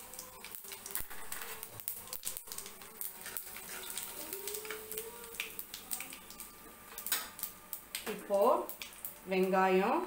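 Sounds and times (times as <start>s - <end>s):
seeds popping in hot oil: 0.0s - 9.7s.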